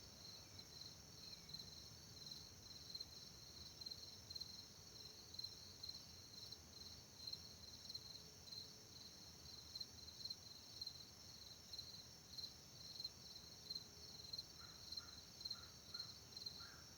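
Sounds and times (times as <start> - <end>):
crickets chirping: 0.1 - 16.9.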